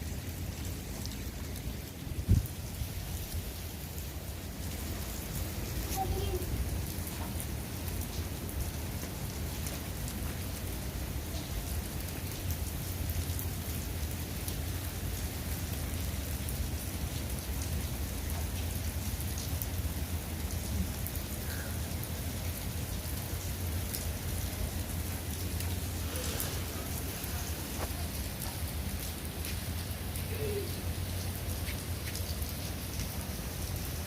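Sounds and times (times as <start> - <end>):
steady rain: 0.0 - 34.0
raindrop ticks: 4.7 - 15.3, 17.1 - 33.8.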